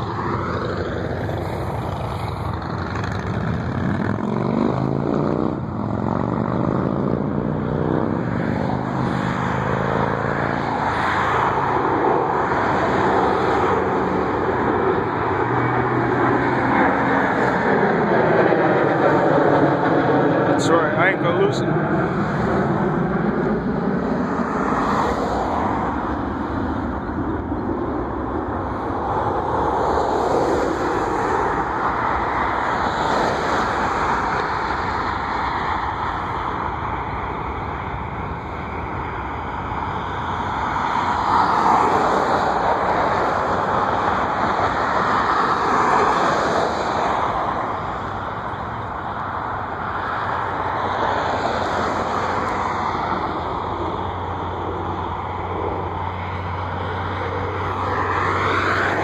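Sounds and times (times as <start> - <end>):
vehicle noise: 0.0 - 59.0.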